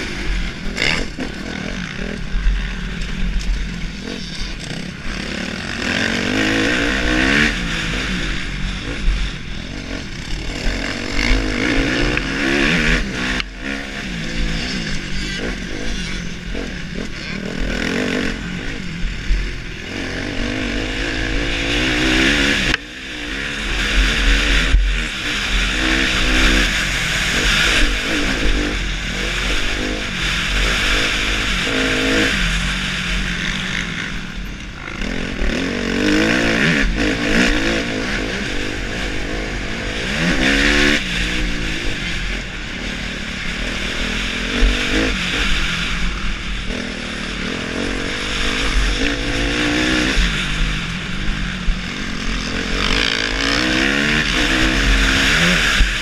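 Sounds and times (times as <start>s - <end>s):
motocross bike engine revving: 0.0s - 56.0s
wind and track noise: 0.0s - 56.0s.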